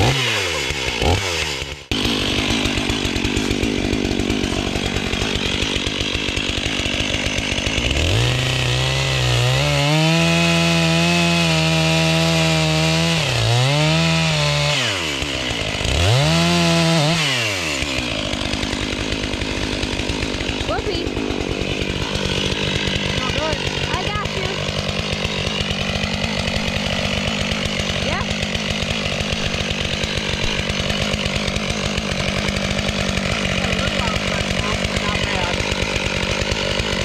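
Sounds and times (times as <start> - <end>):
chainsaw idling and revving: 0.0 - 37.0.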